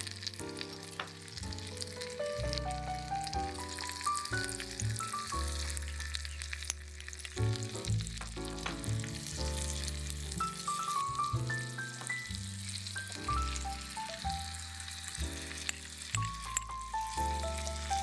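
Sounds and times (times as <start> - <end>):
gentle background music: 0.0 - 18.0
onion and garlic frying in oil: 0.0 - 18.0.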